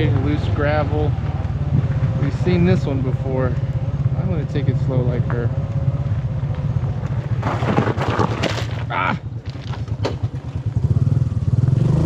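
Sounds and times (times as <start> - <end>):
tyres crunching on gravel: 0.0 - 10.8.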